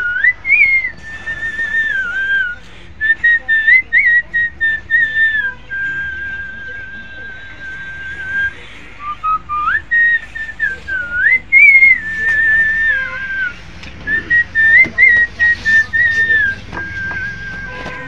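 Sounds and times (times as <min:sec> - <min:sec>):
person whistling a tune: 0:00.0 - 0:18.0.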